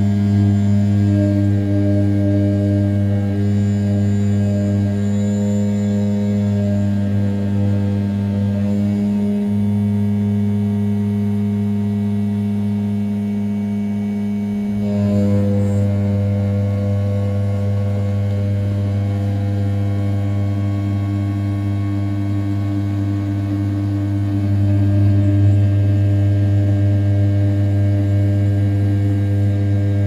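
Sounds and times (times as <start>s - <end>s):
cnc router milling aluminium: 0.0s - 30.0s.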